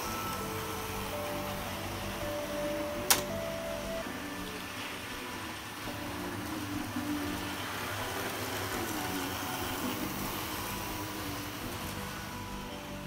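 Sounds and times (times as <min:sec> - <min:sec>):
electric motor hum: 0:00.0 - 0:13.0
model train wheels rumbling on rail: 0:00.0 - 0:13.0.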